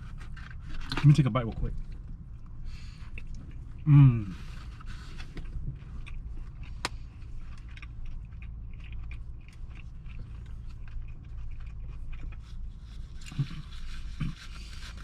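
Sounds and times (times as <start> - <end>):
person chewing crunchy food: 0.0 - 15.0
steady low hum: 0.0 - 15.0.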